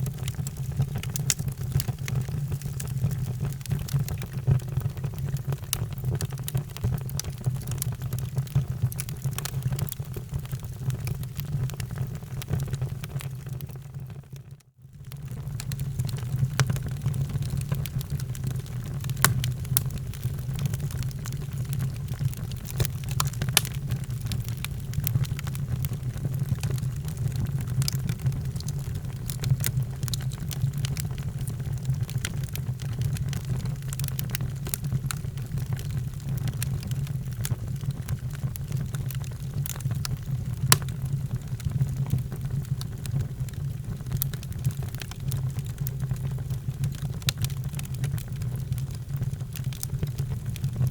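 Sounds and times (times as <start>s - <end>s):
wood fire crackling: 0.0s - 13.7s, 15.1s - 50.9s.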